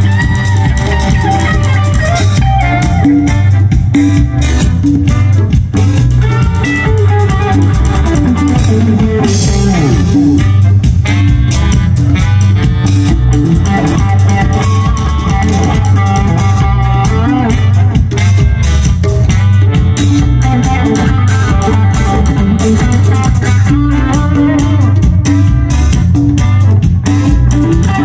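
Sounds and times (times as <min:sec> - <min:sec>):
electric guitar gliding notes: 0:00.0 - 0:28.0
live blues band playing: 0:00.0 - 0:28.0.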